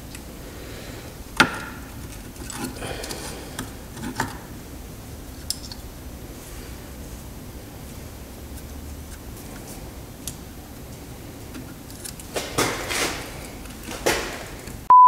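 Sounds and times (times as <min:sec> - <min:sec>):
low background hum: 0:00.0 - 0:14.9.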